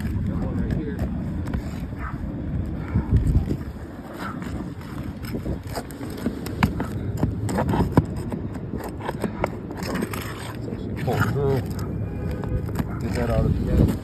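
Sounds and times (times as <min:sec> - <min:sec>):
tool scraping under shingles: 0:00.0 - 0:14.0.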